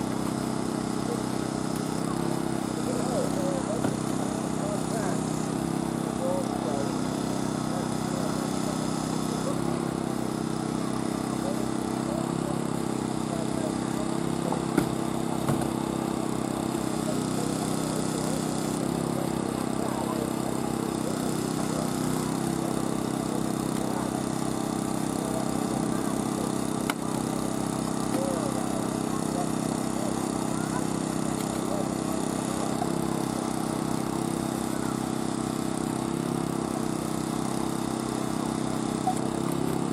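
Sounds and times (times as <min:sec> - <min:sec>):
engine running: 0:00.0 - 0:39.9
hydraulic rescue tools: 0:00.0 - 0:39.9.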